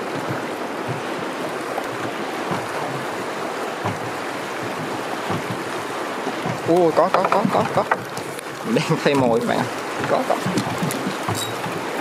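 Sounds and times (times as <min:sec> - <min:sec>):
river water rushing: 0:00.0 - 0:12.0
waves knocking against boat hull: 0:00.0 - 0:12.0.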